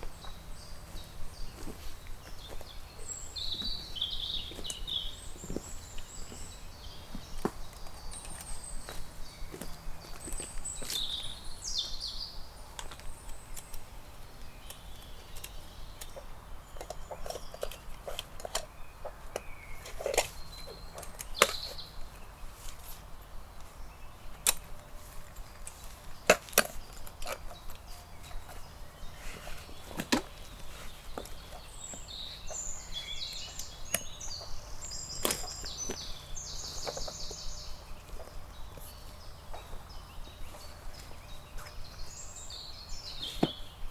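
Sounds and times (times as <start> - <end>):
small bird chirping: 0.0 - 43.9.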